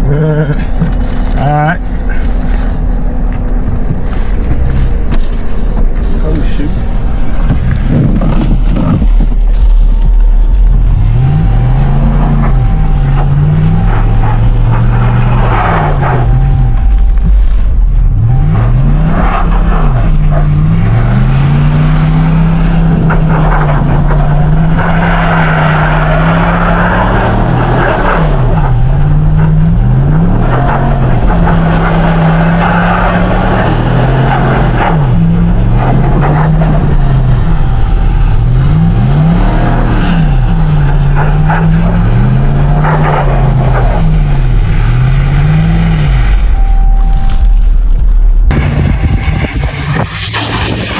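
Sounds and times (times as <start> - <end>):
pickup engine revving: 0.0 - 50.9
steady low rumble: 0.0 - 50.9.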